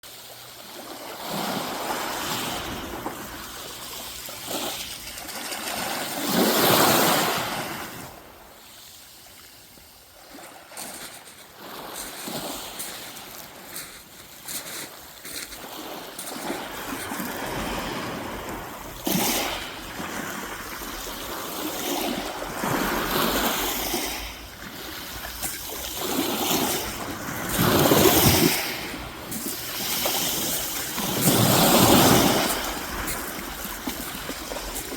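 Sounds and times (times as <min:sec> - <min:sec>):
sea waves breaking on shore: 0:00.1 - 0:34.9.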